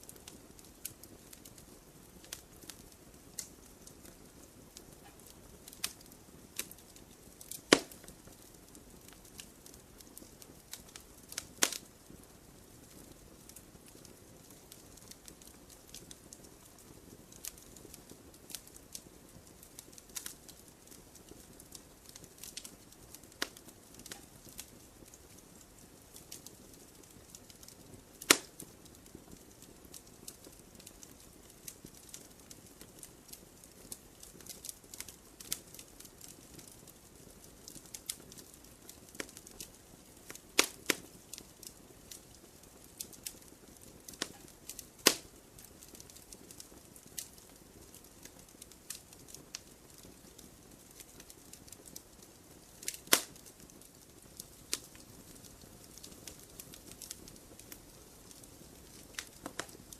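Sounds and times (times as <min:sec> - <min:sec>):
campfire crackling: 0:00.0 - 0:59.9
faint hiss: 0:00.0 - 0:59.9
loud fire pops: 0:00.1 - 0:12.2, 0:12.8 - 0:42.3, 0:42.9 - 0:59.9.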